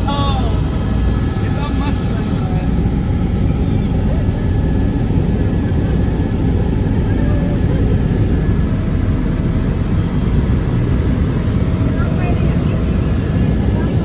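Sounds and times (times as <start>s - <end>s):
helicopter engine and rotor: 0.0s - 14.0s.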